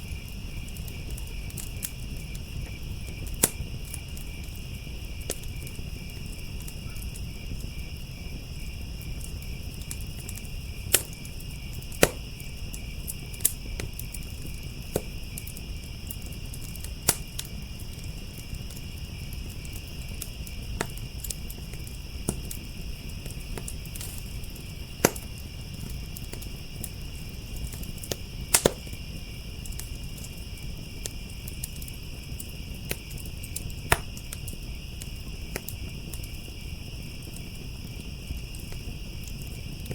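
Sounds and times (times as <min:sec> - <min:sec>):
crickets chirping: 0:00.0 - 0:39.9
wood fire popping and crackling: 0:00.0 - 0:39.9.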